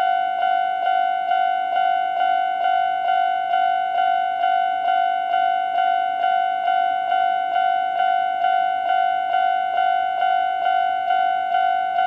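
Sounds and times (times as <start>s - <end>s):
level crossing alarm dinging: 0.0s - 12.0s.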